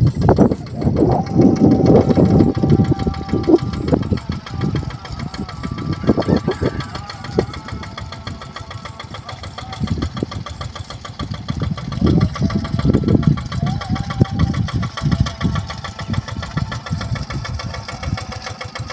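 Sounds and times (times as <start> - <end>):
diesel engine running under load: 0.0 - 18.9.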